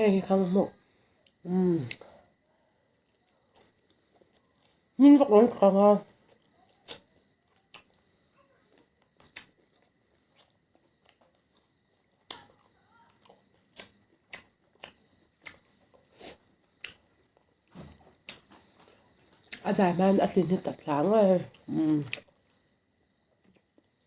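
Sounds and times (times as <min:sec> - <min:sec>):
person chewing bones: 0:01.2 - 0:05.0, 0:06.2 - 0:19.6, 0:21.5 - 0:24.0.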